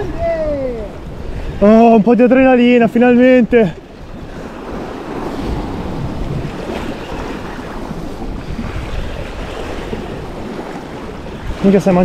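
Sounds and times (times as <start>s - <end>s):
surf washing against rocks: 0.0s - 12.0s
wind rumbling on microphone: 0.0s - 12.0s.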